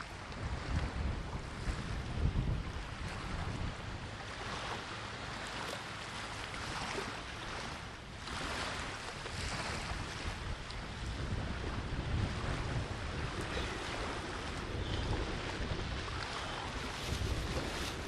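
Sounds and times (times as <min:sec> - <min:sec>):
wind buffeting microphone: 0:00.0 - 0:05.2, 0:06.5 - 0:18.0
sea surf washing onto shore: 0:00.2 - 0:18.0.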